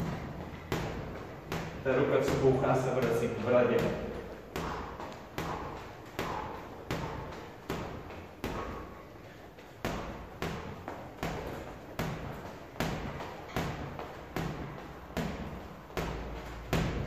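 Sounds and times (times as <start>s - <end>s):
punches on a heavy bag: 0.0s - 9.1s, 9.8s - 17.0s.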